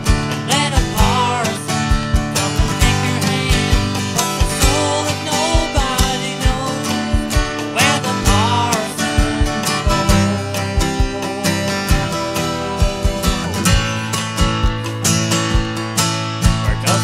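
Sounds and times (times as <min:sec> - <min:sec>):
acoustic guitar strumming: 0:00.0 - 0:17.0
drum machine beat: 0:00.0 - 0:17.0.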